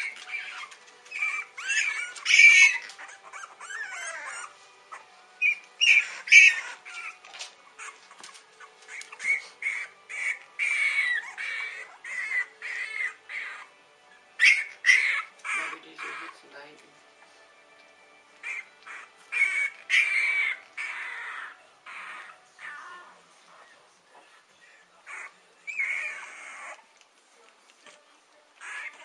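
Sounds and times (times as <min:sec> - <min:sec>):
puppies squealing and yelping: 0:00.0 - 0:16.5, 0:18.2 - 0:23.9, 0:25.0 - 0:27.2, 0:27.8 - 0:29.0.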